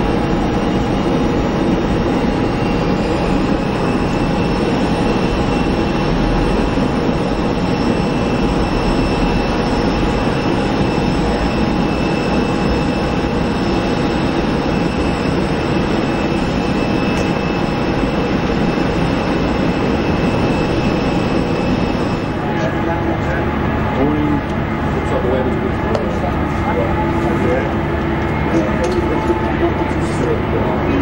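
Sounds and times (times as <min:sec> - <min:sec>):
high engine whine: 0:00.0 - 0:31.0
jet engines roaring: 0:00.0 - 0:31.0.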